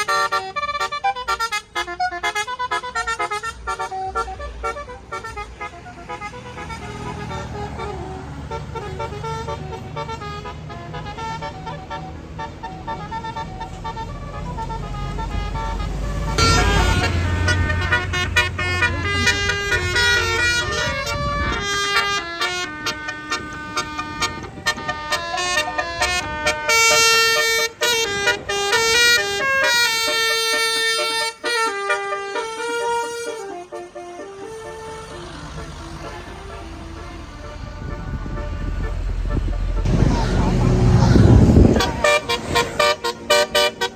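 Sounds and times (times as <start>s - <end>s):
bus horn playing a melody: 0.0s - 43.9s
low engine rumble: 0.0s - 43.9s.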